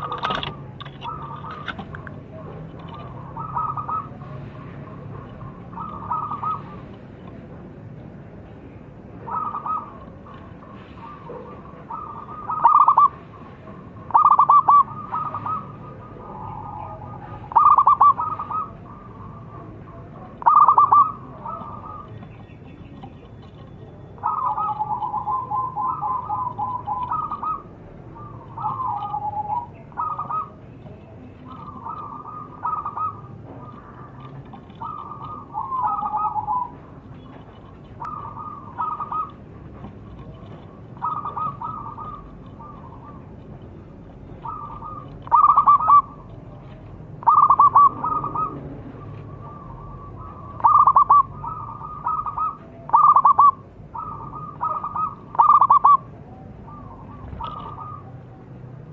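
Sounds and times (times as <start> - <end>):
dove cooing: 0.0 - 7.6, 9.1 - 58.7.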